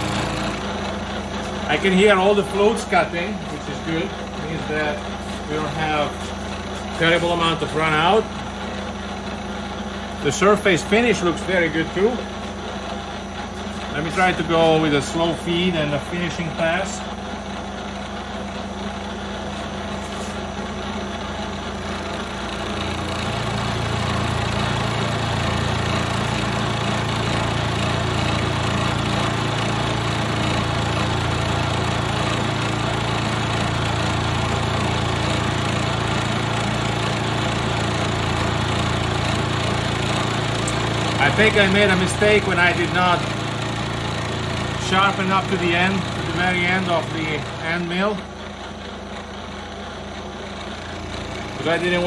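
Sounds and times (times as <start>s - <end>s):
milling machine cutting aluminium: 0.0s - 52.0s.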